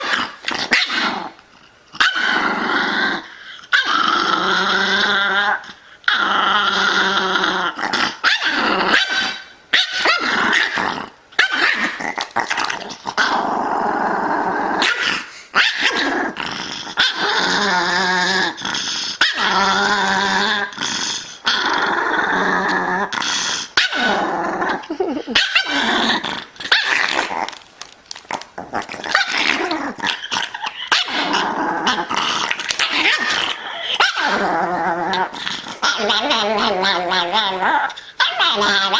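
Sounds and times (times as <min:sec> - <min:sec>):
dogs growling: 0:00.0 - 0:27.6, 0:28.3 - 0:38.9.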